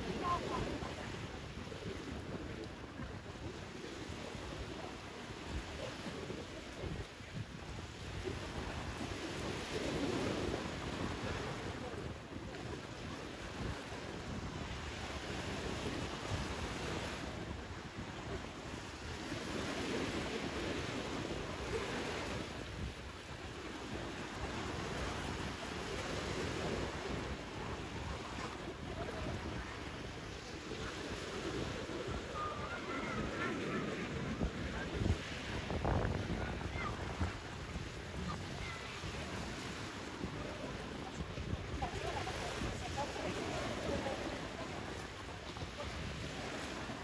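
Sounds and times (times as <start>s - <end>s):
sea surf washing onto beach: 0.0s - 47.0s
wind buffeting microphone: 0.0s - 47.0s.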